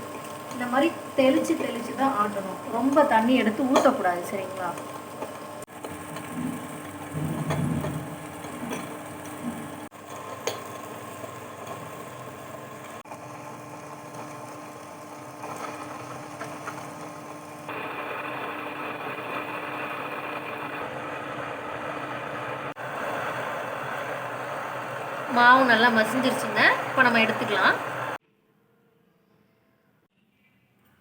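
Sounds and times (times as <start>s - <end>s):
electric wet grinder running: 0.0s - 28.2s.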